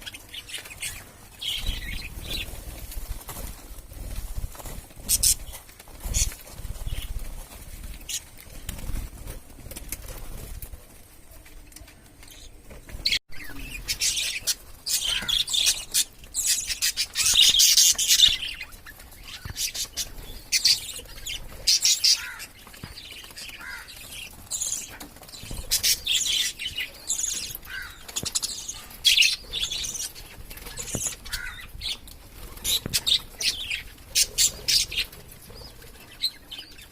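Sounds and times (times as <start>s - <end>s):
wing flapping: 0.1s - 36.9s.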